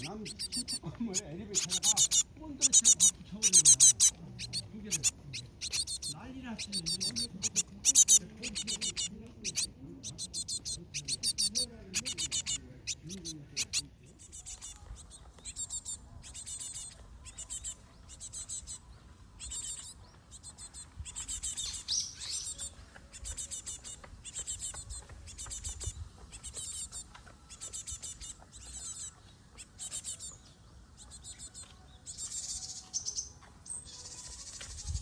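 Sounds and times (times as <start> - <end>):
bird chicks chirping: 0.0 - 35.0.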